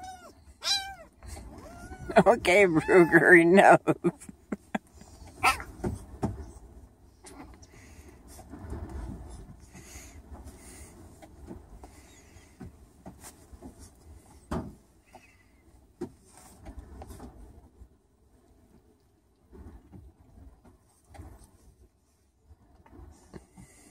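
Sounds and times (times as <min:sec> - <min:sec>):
rustling of fabric and fur: 0:00.0 - 0:23.9.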